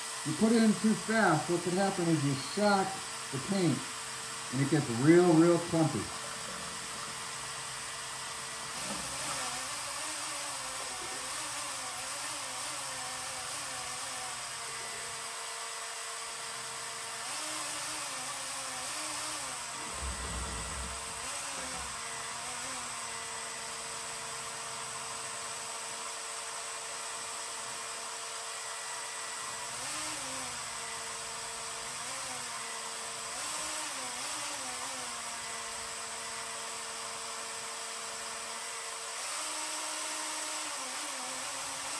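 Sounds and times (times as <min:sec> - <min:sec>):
paint mixer motor whine: 0:00.0 - 0:41.9.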